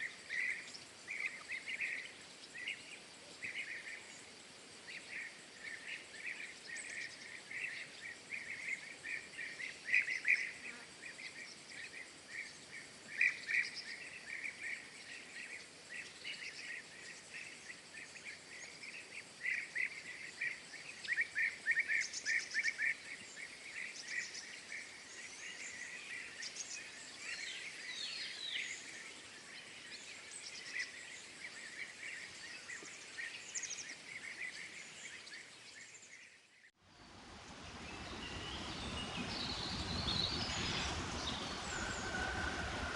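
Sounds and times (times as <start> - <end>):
small birds chirping: 0.0 - 42.9
steady background hiss: 0.0 - 42.9.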